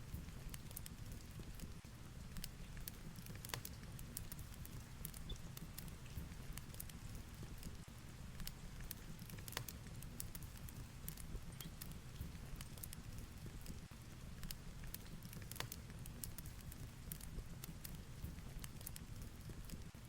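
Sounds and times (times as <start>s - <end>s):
fireplace crackling and popping: 0.0s - 20.0s.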